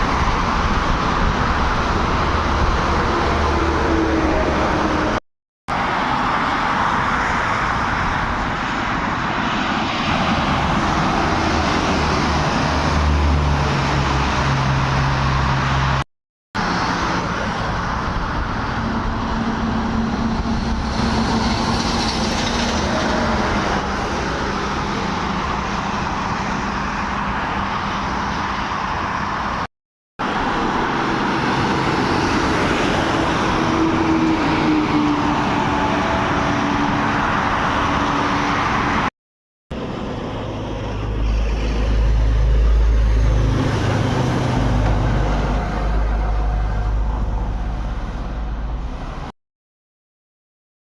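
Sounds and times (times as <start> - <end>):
heavy trucks on a highway: 0.0 - 39.1, 39.7 - 49.4.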